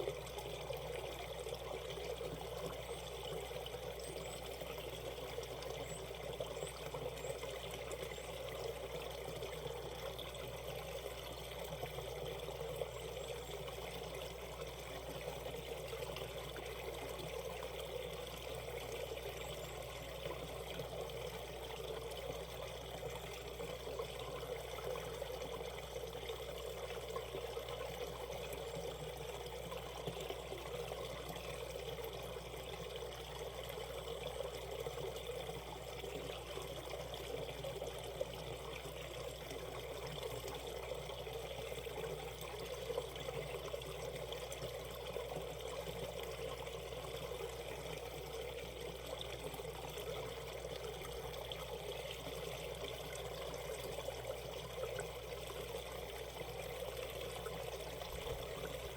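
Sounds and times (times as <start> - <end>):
stream running over stones: 0.0 - 58.9.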